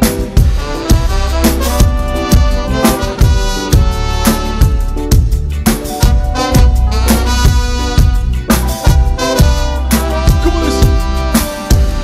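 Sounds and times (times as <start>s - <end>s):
live band instrumental: 0.0s - 12.0s.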